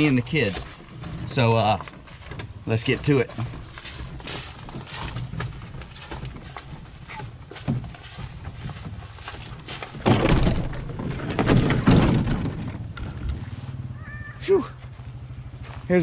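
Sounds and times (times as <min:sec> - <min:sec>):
footsteps on trail: 0:00.0 - 0:11.3, 0:12.9 - 0:16.0
rubbing and handling noise: 0:00.0 - 0:13.6
canoe rustling and knocking: 0:00.0 - 0:13.9.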